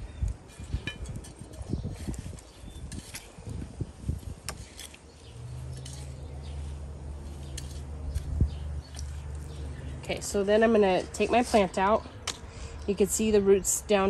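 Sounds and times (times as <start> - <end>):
hands digging in soil: 0.5 - 12.0.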